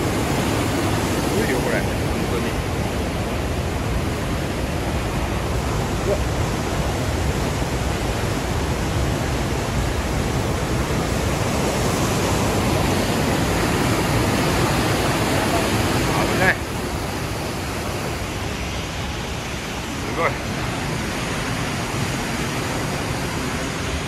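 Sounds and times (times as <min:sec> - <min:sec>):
waterfall and rushing river: 0:00.0 - 0:24.0.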